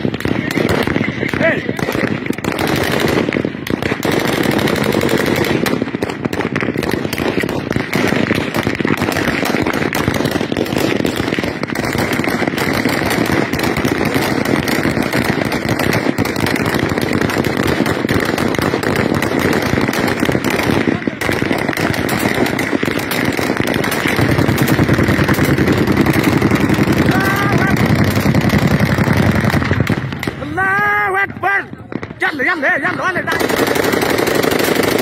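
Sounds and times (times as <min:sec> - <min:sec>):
rapid continuous gunfire: 0:00.0 - 0:35.0.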